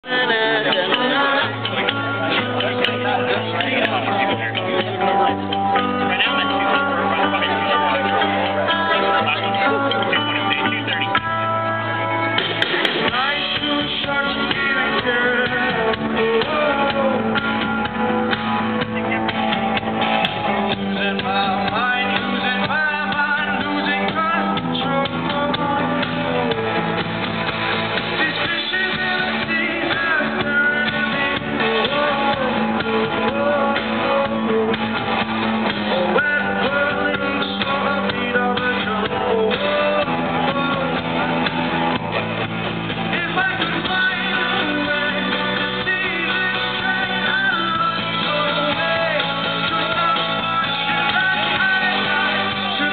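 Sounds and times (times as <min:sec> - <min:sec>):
person singing: 0:00.0 - 0:27.1, 0:28.0 - 0:42.2, 0:42.9 - 0:52.9
rock band playing live: 0:00.0 - 0:52.9.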